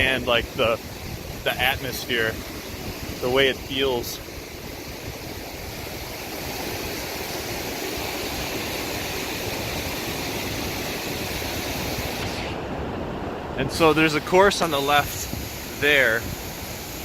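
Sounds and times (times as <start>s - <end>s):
fast river water rushing: 0.0s - 17.0s.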